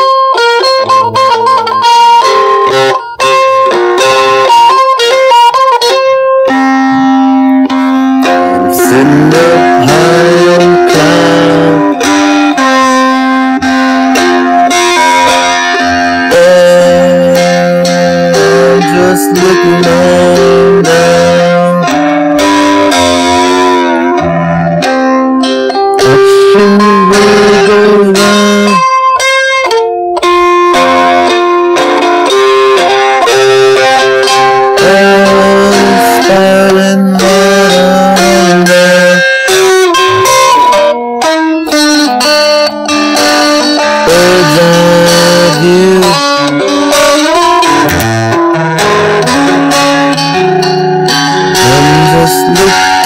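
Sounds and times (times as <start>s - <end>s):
electric guitar melody: 0.0s - 53.0s.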